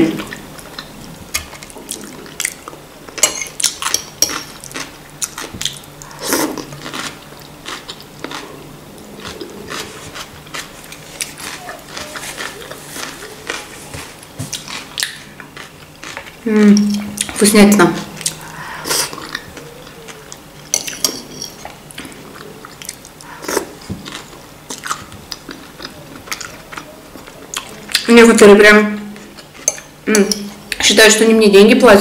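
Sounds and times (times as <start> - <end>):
person chewing: 0.2 - 17.4, 18.2 - 28.1.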